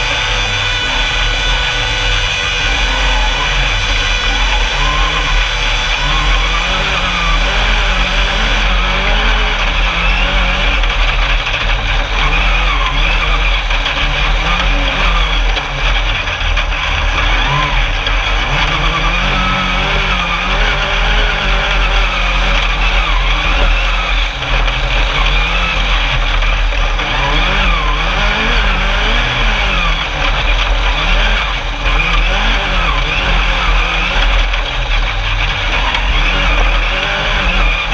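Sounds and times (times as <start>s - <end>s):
noisy background: 0.0s - 37.9s
race car engine revving: 0.0s - 37.9s.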